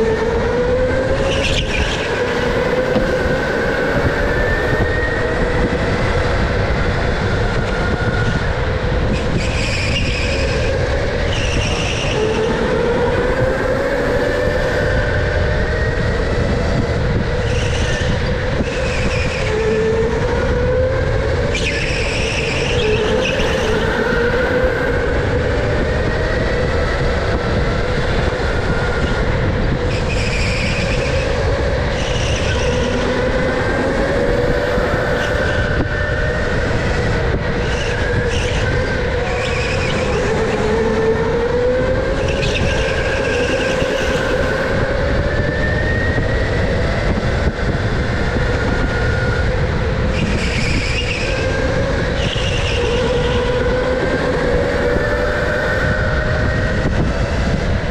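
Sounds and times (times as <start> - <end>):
low tyre and chassis rumble: 0.0 - 57.9.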